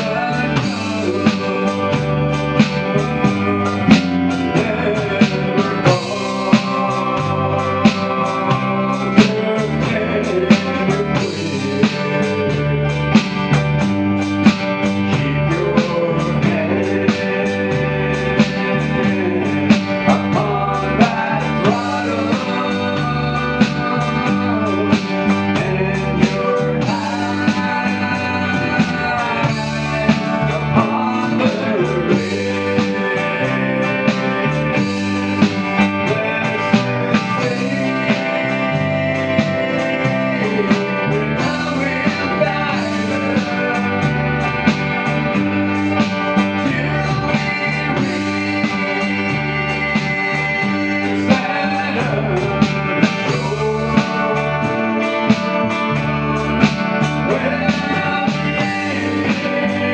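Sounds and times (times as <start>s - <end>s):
acoustic and electric guitars: 0.0s - 59.9s
country gospel band playing: 0.0s - 59.9s
steady beat: 0.0s - 59.9s.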